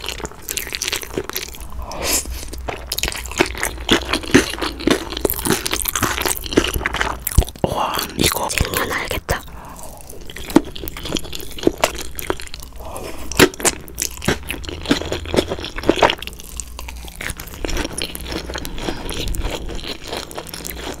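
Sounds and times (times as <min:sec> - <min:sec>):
smacking and crunchy chewing: 0:00.0 - 0:21.0.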